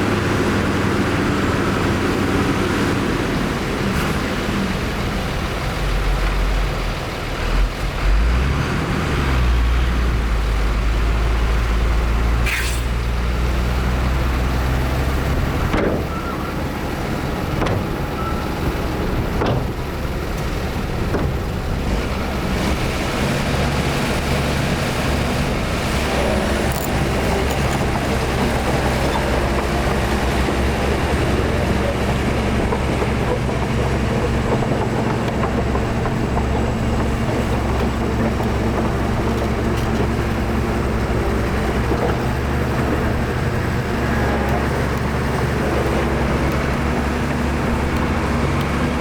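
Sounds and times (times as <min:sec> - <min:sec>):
diesel engine rumble: 0:00.0 - 0:49.0.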